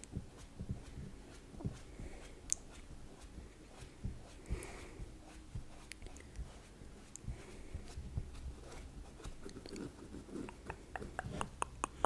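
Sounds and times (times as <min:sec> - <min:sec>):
soft scratching: 0:00.0 - 0:12.0.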